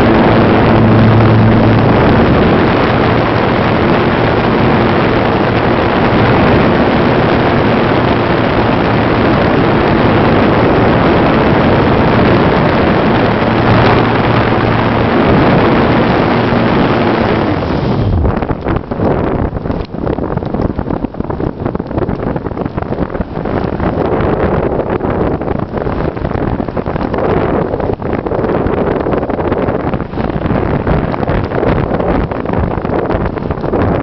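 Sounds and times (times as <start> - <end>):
wind rushing across microphone: 0.0 - 34.0.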